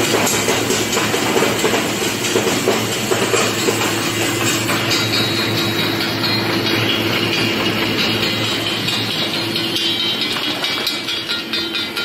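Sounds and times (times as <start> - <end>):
constant machine hum: 0.0 - 12.0
packing machine clatter: 0.0 - 12.0.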